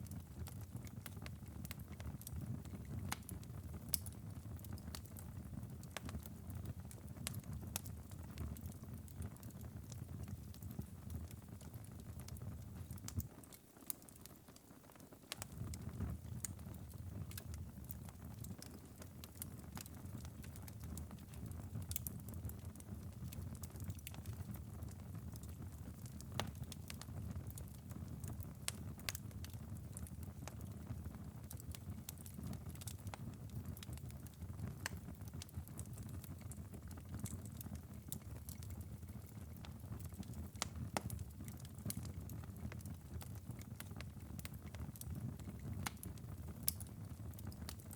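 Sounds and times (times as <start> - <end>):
embers crackling and popping: 0.0 - 47.9
low steady fire rumble: 0.0 - 47.9.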